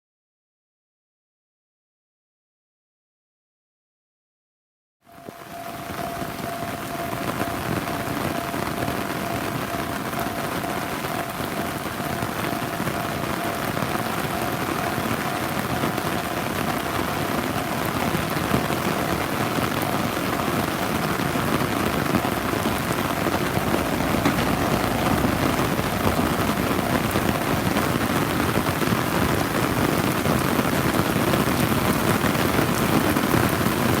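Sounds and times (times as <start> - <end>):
heavy rain pouring: 5.1 - 34.0.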